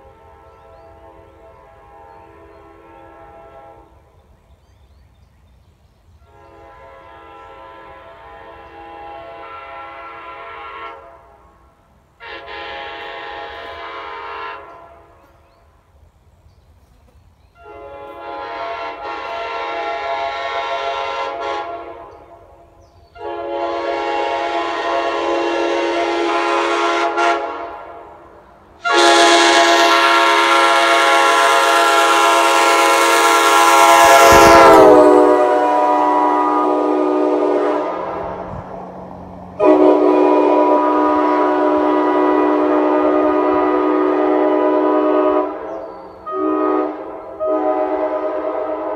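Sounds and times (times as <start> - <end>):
train horn blasts: 0.0 - 4.2, 6.2 - 15.4, 17.6 - 48.9.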